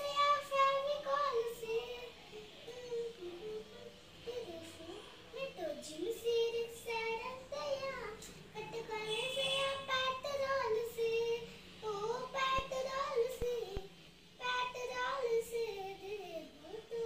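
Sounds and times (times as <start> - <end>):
young child singing softly: 0.0 - 17.0.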